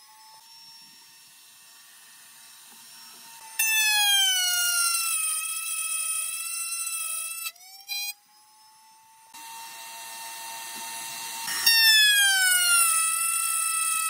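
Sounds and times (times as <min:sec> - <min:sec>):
power cutter whining: 0:00.0 - 0:14.0.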